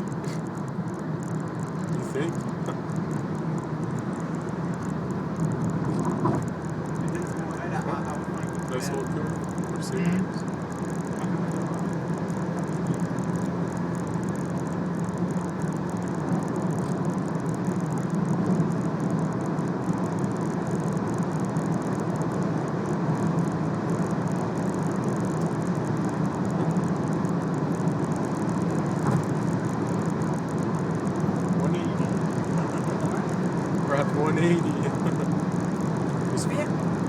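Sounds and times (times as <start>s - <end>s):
road and wind noise in car: 0.0s - 37.0s
tyre and drivetrain drone: 0.0s - 37.0s.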